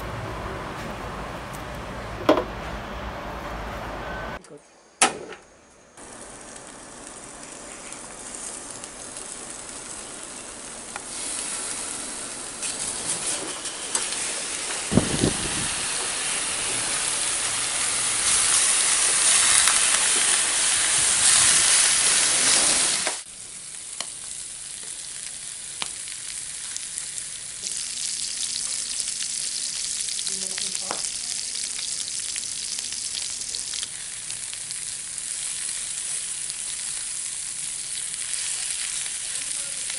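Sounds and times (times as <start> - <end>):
pork sizzling in a pan: 6.0 - 39.9.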